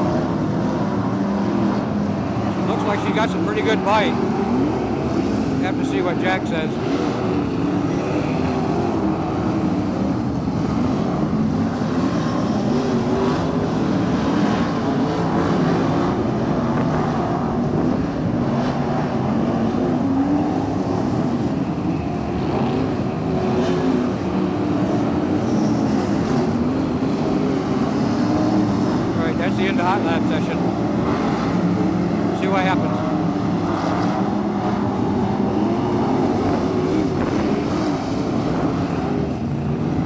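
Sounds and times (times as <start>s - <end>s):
race car engines droning: 0.0s - 40.0s.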